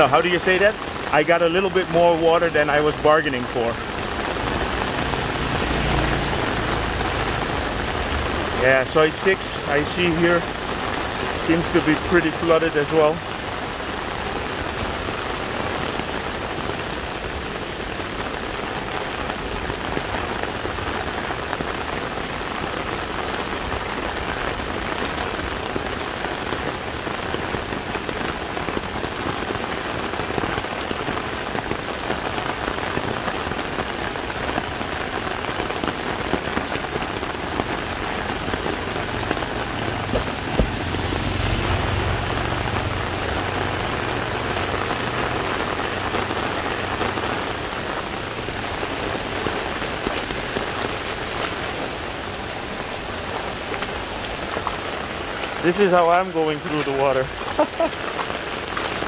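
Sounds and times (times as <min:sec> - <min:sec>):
heavy rain on a street: 0:00.0 - 0:59.0.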